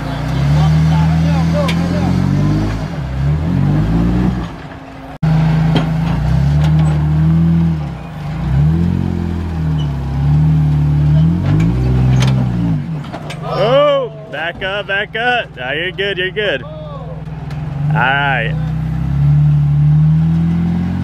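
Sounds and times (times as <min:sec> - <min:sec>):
engine revving under load: 0:00.0 - 0:16.5, 0:17.2 - 0:21.0.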